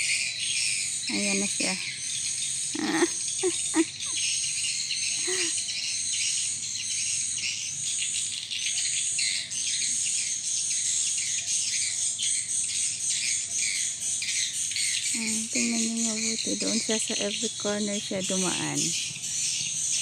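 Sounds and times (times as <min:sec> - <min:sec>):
insect chorus trilling: 0:00.0 - 0:20.0.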